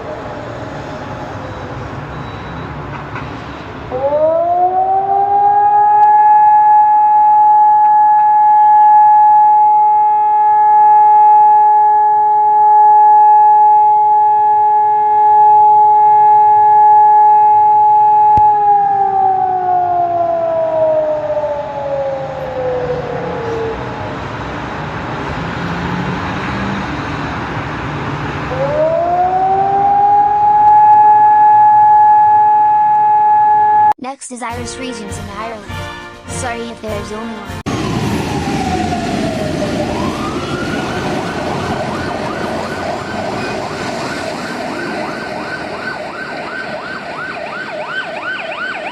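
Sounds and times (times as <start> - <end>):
civil defence siren: 0.0 - 34.0, 37.6 - 48.9.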